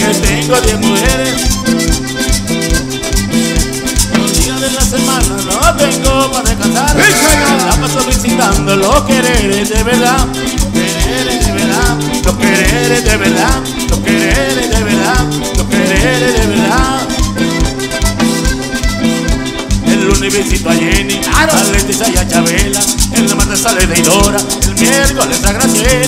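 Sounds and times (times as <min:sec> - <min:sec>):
bass guitar: 0:00.0 - 0:26.0
button accordion melody: 0:00.0 - 0:26.0
drums: 0:00.0 - 0:26.0
rattling percussion beat: 0:00.0 - 0:26.0.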